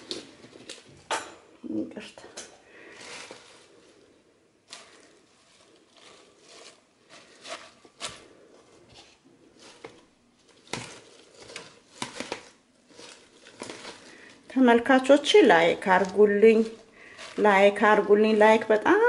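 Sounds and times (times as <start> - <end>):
lettuce leaves rustling: 0.0 - 1.0, 2.7 - 19.0.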